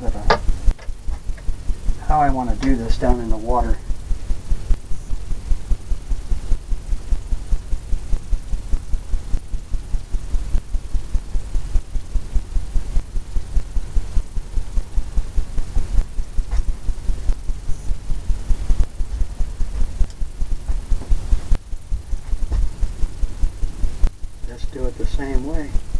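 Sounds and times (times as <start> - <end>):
faint hiss: 0.0 - 25.9
throbbing low rumble: 0.0 - 25.9.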